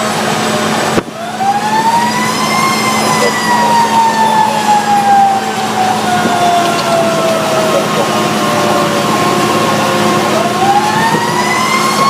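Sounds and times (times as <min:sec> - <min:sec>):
truck engine hum: 0:00.0 - 0:12.0
fire truck siren winding: 0:00.7 - 0:12.0.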